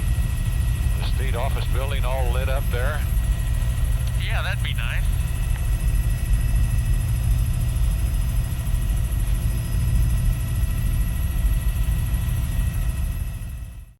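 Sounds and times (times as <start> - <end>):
helicopter rotor and engine rumble: 0.0 - 13.9.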